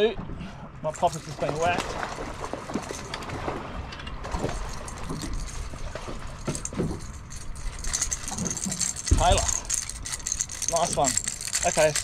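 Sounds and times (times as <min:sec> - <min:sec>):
water splashing around boat: 0:00.2 - 0:12.0.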